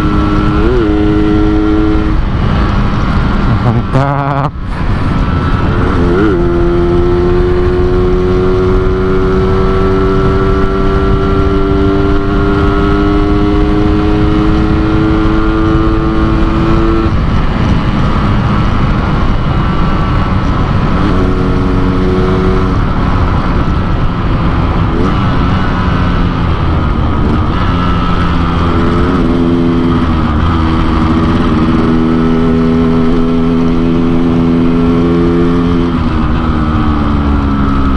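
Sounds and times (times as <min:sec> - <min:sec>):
steady rushing noise: 0:00.0 - 0:37.9.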